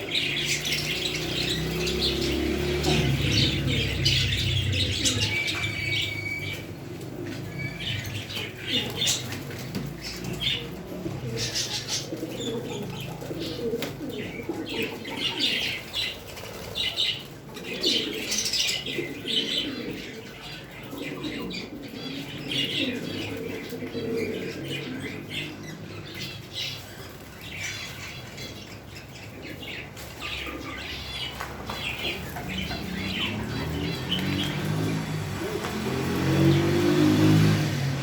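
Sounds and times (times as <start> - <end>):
lovebirds chirping and squawking: 0.0 - 38.0.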